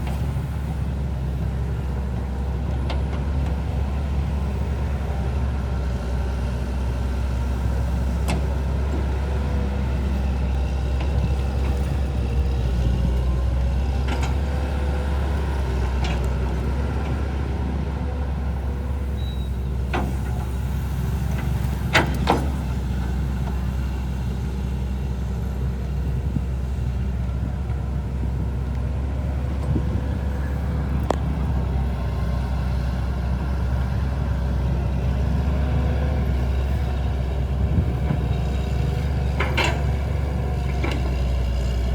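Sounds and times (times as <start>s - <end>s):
low engine rumble: 0.0s - 41.9s.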